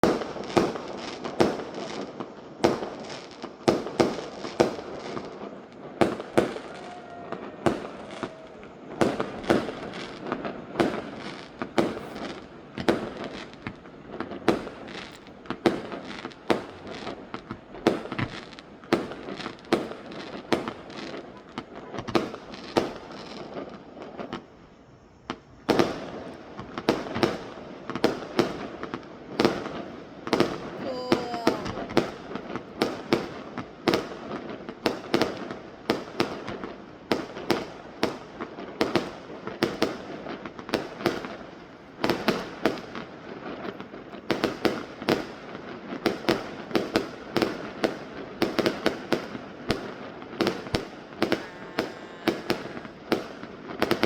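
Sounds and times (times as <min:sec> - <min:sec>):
firework bangs: 0:00.0 - 0:24.5, 0:25.3 - 0:54.0
firework crackling: 0:00.0 - 0:54.0.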